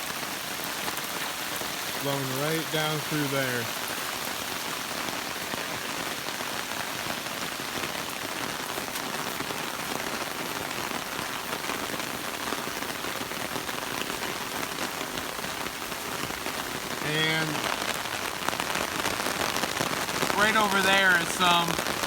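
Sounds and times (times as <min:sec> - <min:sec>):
rain on wet ground: 0:00.0 - 0:22.0.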